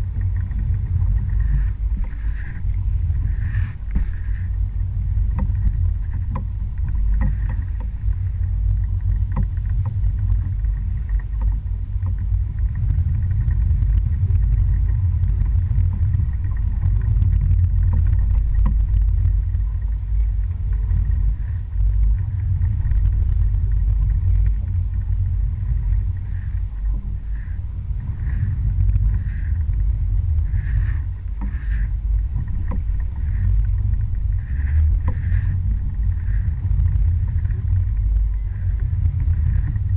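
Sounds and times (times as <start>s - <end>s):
outboard motor running: 0.0s - 39.9s
water noise: 0.0s - 39.9s
wind: 0.0s - 39.9s.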